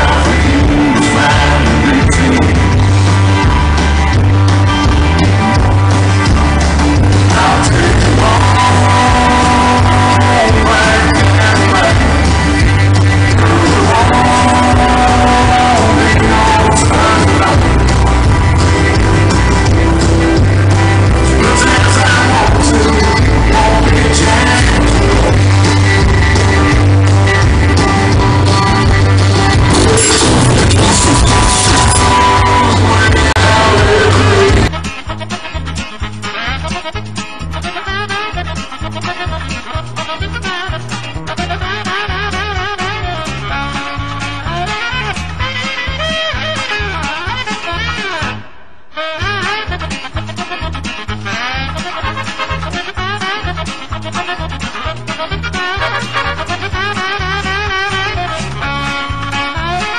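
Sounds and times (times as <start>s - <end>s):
country rock band with singer: 0.0s - 59.9s.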